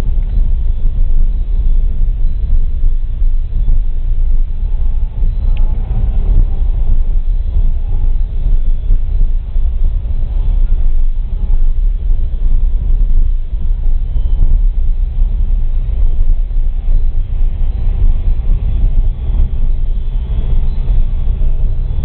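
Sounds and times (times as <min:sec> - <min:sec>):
vehicle rumbling on dirt track: 0:00.0 - 0:22.0.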